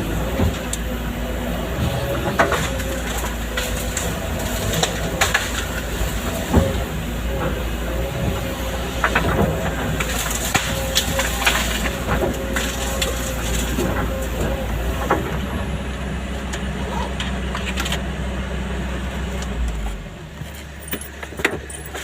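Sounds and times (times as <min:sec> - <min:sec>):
excavator engine rumble: 0:00.0 - 0:22.0.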